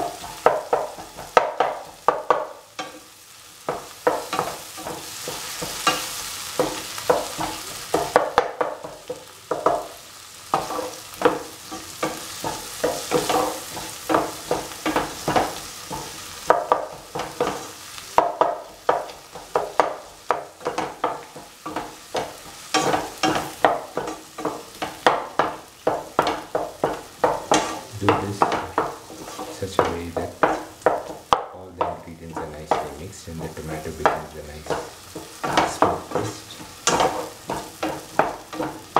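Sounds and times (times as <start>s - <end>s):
food sizzling in oil: 0.0s - 38.9s
spatula scraping a frying pan: 0.0s - 38.9s.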